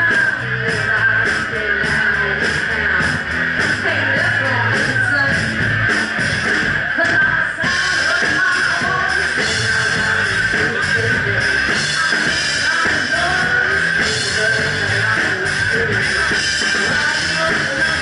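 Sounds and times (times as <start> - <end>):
woman singing into a microphone: 0.0 - 5.5, 6.9 - 18.0
drum kit: 0.0 - 18.0
electric guitar: 0.0 - 18.0.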